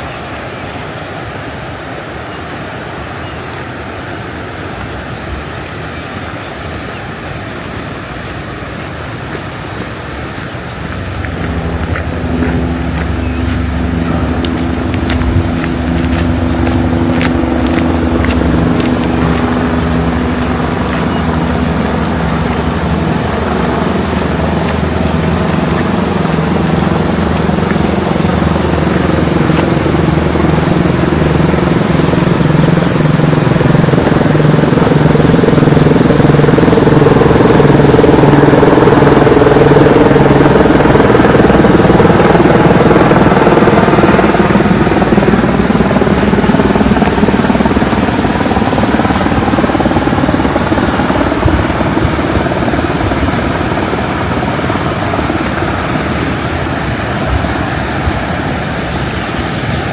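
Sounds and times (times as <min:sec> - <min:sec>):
motor engine humming: 0:02.4 - 0:59.9.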